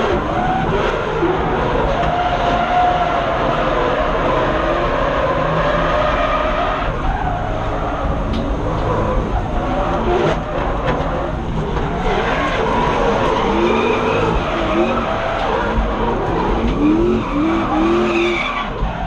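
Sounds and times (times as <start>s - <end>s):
car engine revving hard: 0.0s - 19.0s
tyres skidding: 0.0s - 19.0s.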